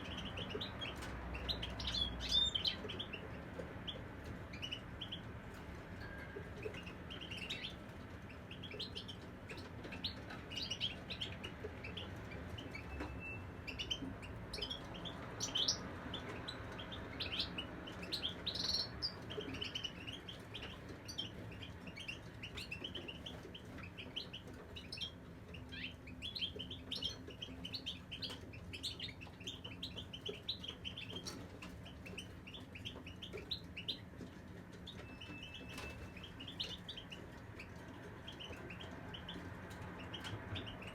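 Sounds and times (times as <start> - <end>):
finches chirping and twittering: 0.0 - 40.9.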